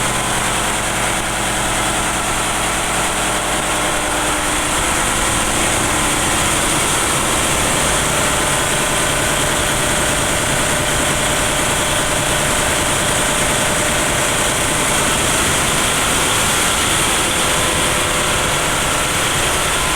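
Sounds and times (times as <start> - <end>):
engine room machinery din: 0.0 - 19.9.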